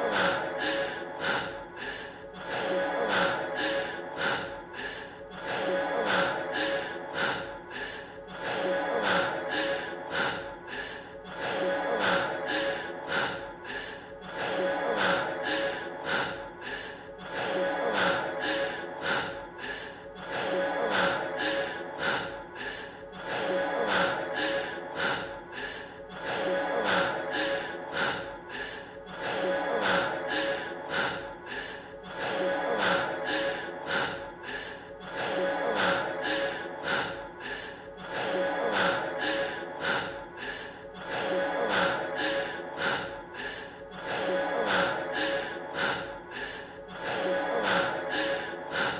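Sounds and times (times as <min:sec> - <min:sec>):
man breathing heavily: 0:00.0 - 0:48.9.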